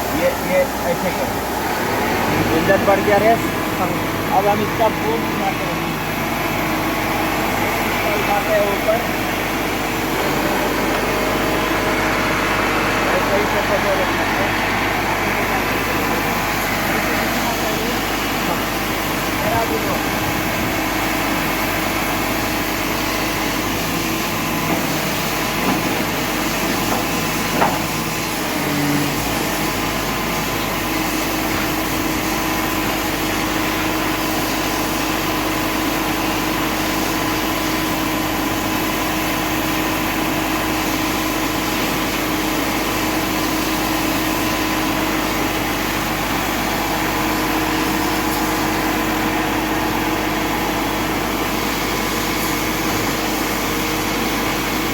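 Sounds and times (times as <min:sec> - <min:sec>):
crane engine humming: 0:00.0 - 0:54.9.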